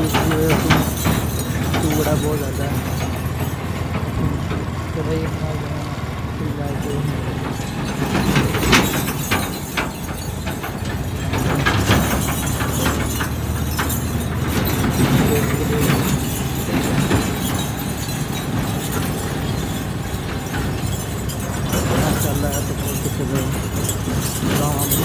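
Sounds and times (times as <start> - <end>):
clattering knocks and rattles: 0.0 - 25.0
motorcycle engine running: 0.0 - 25.0.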